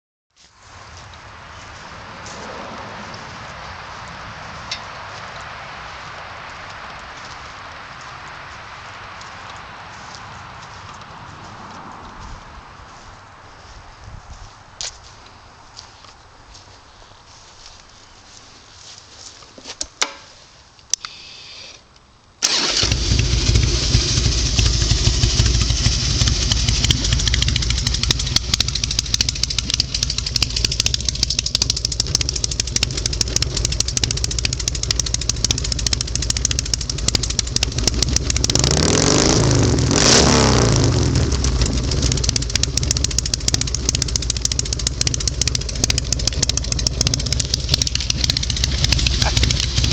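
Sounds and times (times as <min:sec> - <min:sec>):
motorcycle engine idling and revving: 0:00.4 - 0:08.1, 0:09.1 - 0:19.0, 0:22.4 - 0:49.9.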